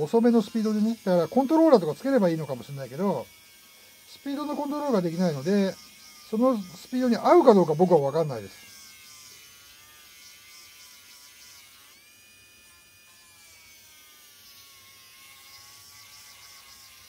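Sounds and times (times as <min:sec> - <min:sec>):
rotary tool motor whine: 0:00.0 - 0:17.0.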